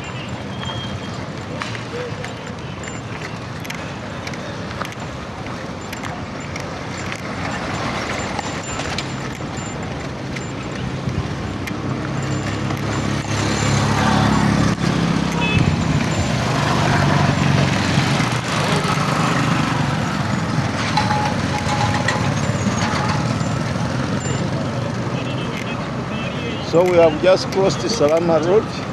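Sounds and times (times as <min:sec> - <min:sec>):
road noise: 0:00.0 - 0:28.9.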